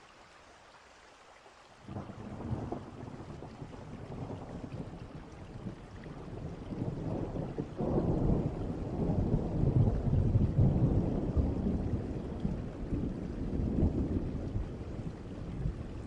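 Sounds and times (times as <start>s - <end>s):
steady rain: 0.0s - 16.0s
thunder rumbling: 1.9s - 16.0s.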